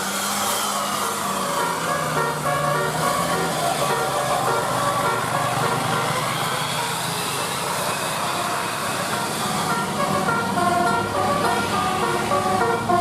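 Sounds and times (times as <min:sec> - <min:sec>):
multi-tone bus horn melody: 0:00.0 - 0:13.0
vehicle noise: 0:00.0 - 0:13.0.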